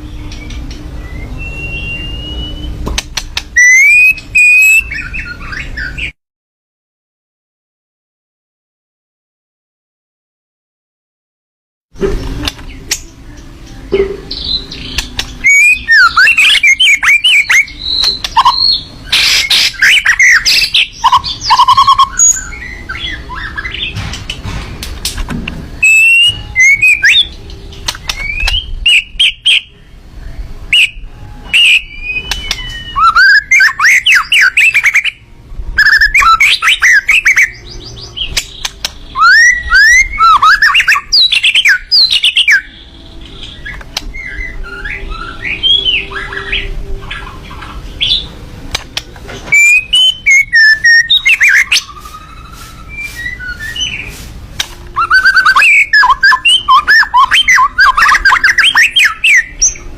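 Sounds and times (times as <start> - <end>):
songbird chirping and whistling: 0.0 - 6.2, 12.4 - 24.1, 25.6 - 59.9.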